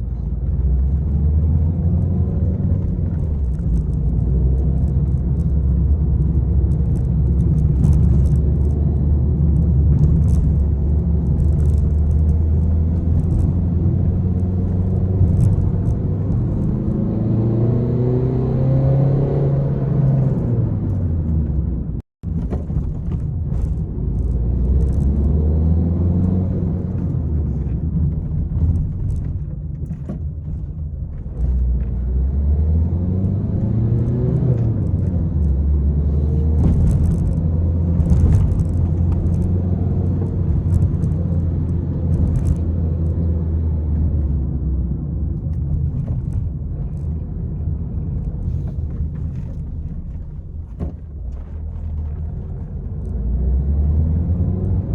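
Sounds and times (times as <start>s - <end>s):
car engine under load: 0.0s - 54.9s
tyre rumble: 0.0s - 54.9s.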